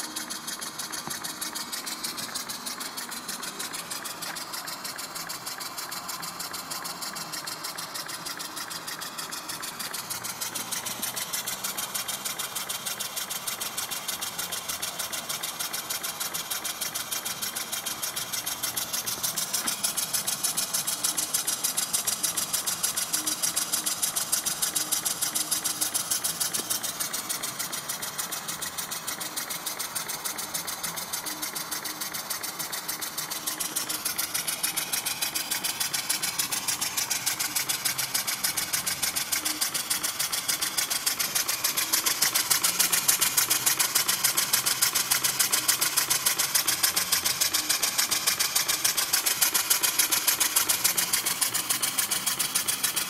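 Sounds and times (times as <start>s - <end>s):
single-cylinder engine running fast: 0.0s - 53.0s.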